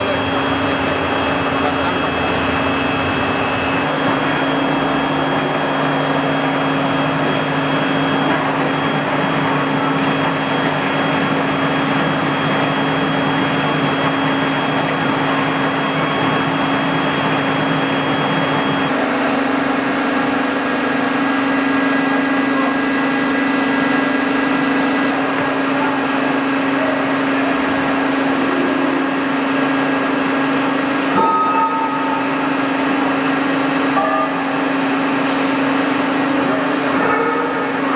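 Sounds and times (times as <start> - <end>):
machine hum and hiss: 0.0 - 37.9.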